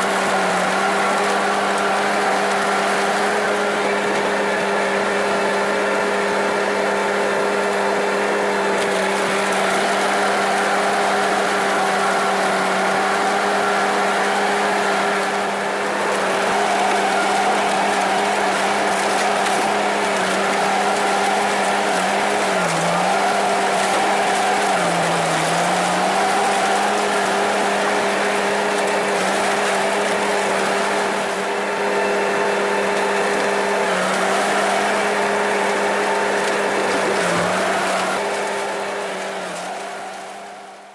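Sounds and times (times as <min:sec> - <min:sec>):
engine running at high speed: 0:00.0 - 0:40.9
machine motor humming: 0:00.0 - 0:40.9.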